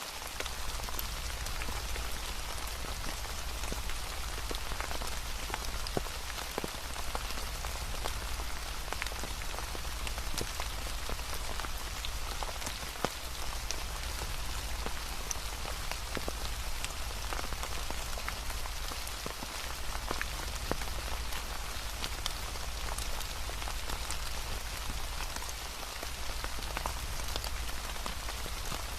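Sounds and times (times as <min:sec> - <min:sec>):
rain drops ticking: 0:00.0 - 0:28.9.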